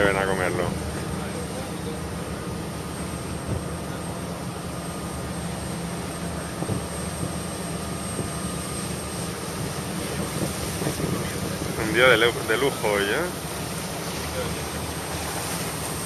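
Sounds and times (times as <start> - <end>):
boat engine droning: 0.0 - 16.0
wind and water hiss: 0.0 - 16.0.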